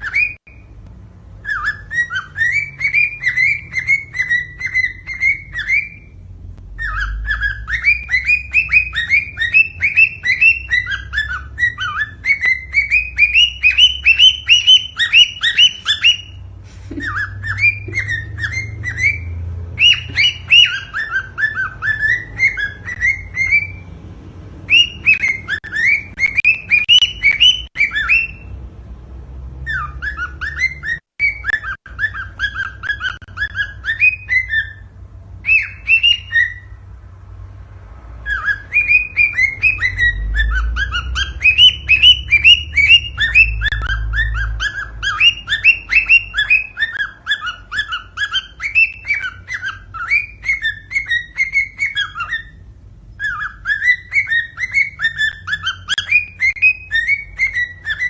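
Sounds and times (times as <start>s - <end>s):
cockatiel whistling chirps: 0.0s - 0.7s, 1.4s - 23.9s, 24.6s - 28.5s, 29.6s - 36.8s, 38.2s - 58.0s.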